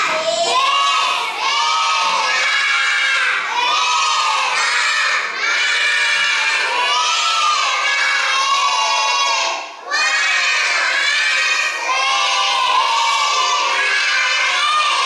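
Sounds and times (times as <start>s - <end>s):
children calling out in unison: 0.0s - 15.0s.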